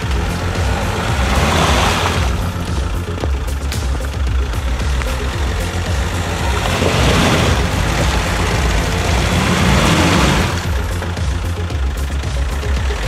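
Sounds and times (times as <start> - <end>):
loud rushing noise: 0.0 - 11.6
engine running hard: 0.0 - 13.0.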